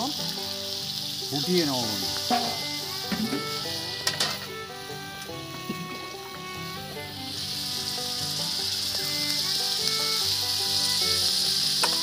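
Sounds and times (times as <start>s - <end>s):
background music: 0.0s - 12.0s
curry sizzling in a pan: 0.0s - 12.0s.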